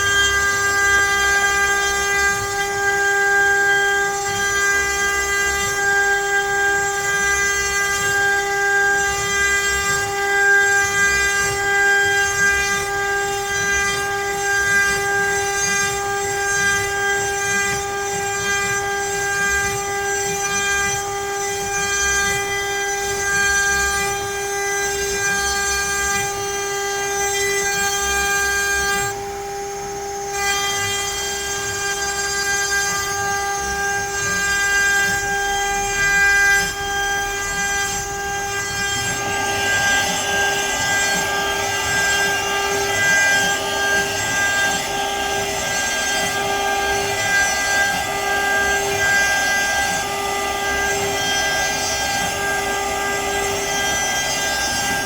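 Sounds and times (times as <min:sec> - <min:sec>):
bit cutting wood: 0:00.0 - 0:55.0
router spindle whine: 0:00.0 - 0:55.0.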